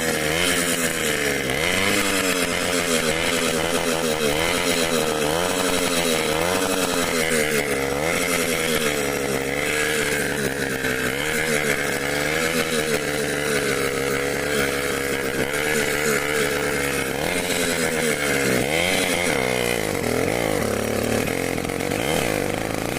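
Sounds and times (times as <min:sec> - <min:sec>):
moped engine revving: 0:00.0 - 0:22.9.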